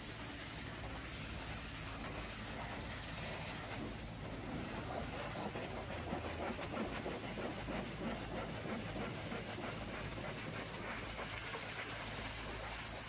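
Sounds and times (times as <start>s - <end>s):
pressure washer spraying metal: 0.0s - 13.0s.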